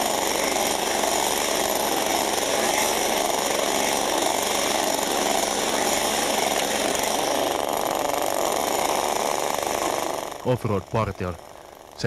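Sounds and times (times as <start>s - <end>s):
chainsaws running: 0.0s - 12.0s.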